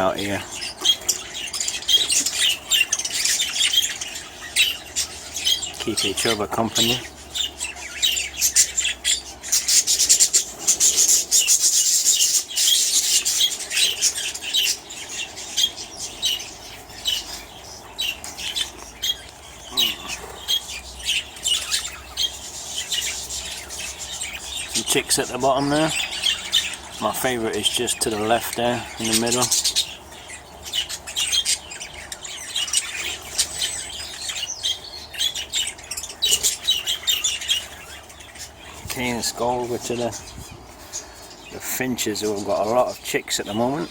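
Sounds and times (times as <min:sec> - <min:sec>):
small birds chirping and squawking: 0:00.0 - 0:43.9.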